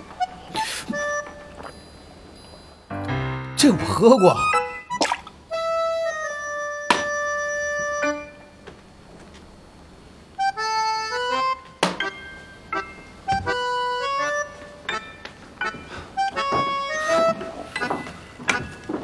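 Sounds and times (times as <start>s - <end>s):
playful free-reed instrument music: 0.0s - 1.9s, 2.9s - 8.6s, 10.4s - 19.0s.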